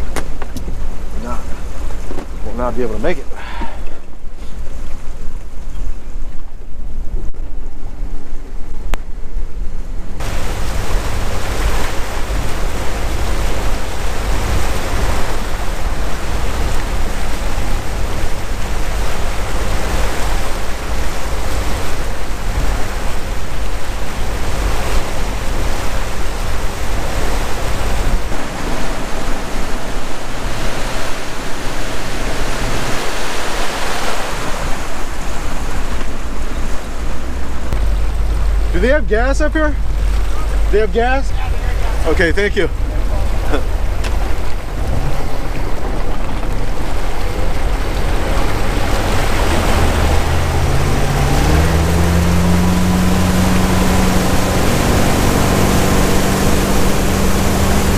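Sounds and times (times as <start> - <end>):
low boat engine drone: 0.0 - 57.9
water noise off hull: 0.0 - 57.9
wind on microphone: 0.0 - 57.9.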